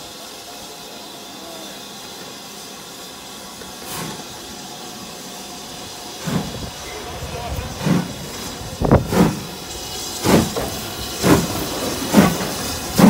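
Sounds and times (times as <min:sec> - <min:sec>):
rush of steam: 0:00.0 - 0:13.0
steam locomotive hissing: 0:00.0 - 0:13.0.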